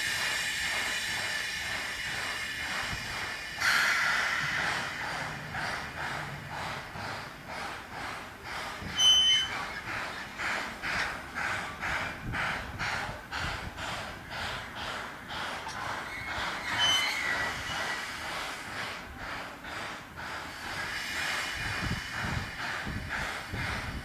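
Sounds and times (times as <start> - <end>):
high squeal of train wheels: 0.0 - 24.0
steam locomotive exhaust chuffing: 0.0 - 24.0.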